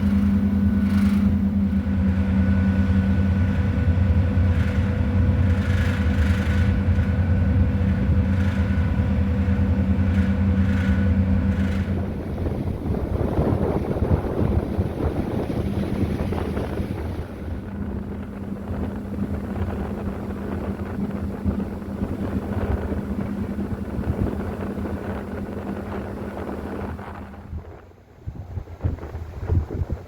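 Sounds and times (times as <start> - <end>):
ferry engine drone: 0.0 - 30.0
moving water: 0.0 - 30.0
wind on microphone: 0.0 - 30.0.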